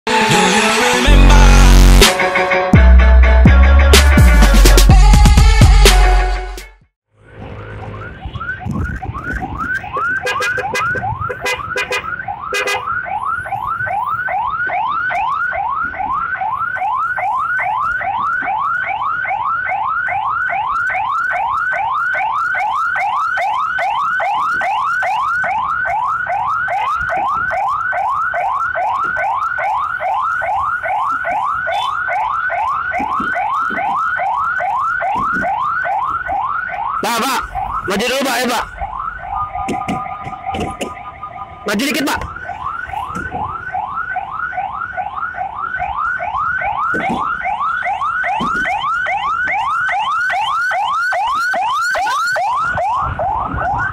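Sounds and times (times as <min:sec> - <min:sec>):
ambulance siren yelping: 0:07.2 - 0:53.9.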